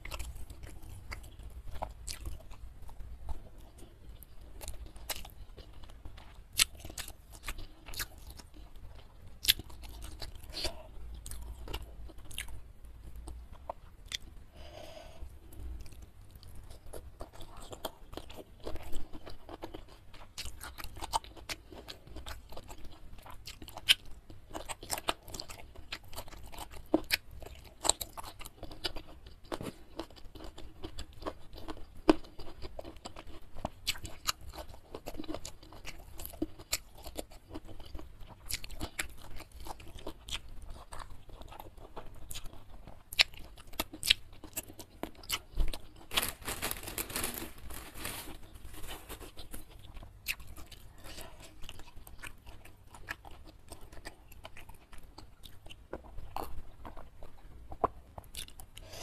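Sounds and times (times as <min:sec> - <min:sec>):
person chewing and lip smacking: 0:00.0 - 0:14.4, 0:15.8 - 0:46.2, 0:49.2 - 0:59.0.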